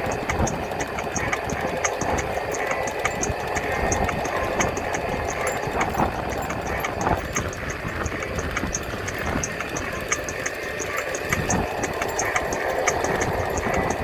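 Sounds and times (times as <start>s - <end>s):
high regular ticking: 0.0s - 14.0s
scooter tyre rumble: 0.0s - 14.0s
wind over microphone: 0.0s - 14.0s.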